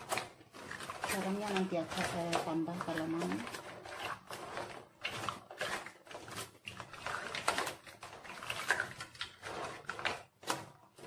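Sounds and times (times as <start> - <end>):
spatula scraping a wok: 0.0 - 11.0
thick curry sloshing: 0.0 - 11.0.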